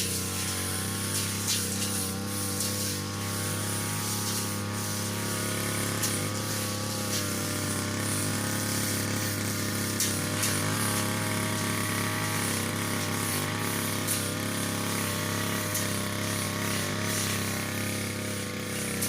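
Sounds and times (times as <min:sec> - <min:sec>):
brush cutter running: 0:00.0 - 0:19.0.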